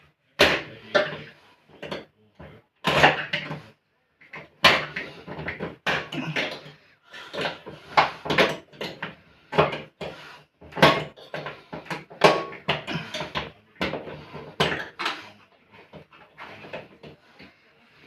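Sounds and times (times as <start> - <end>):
hard objects knocking and clattering: 0.4 - 17.3.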